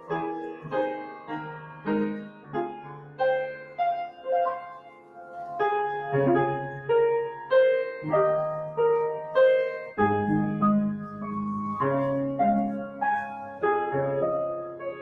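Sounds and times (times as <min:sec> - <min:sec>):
solo piano played slowly: 0:00.0 - 0:15.0.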